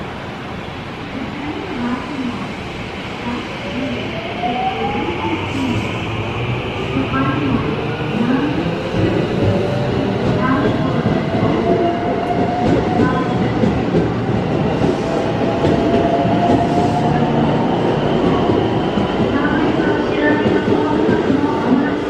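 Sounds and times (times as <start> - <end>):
train wheels on track: 0.1 - 22.0.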